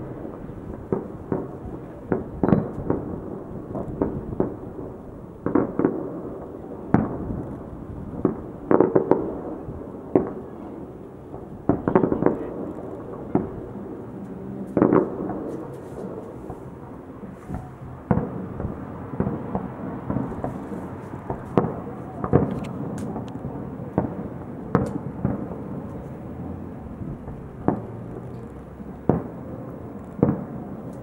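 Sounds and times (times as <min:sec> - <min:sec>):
fireworks bursting in sharp bangs: 0:00.0 - 0:31.0.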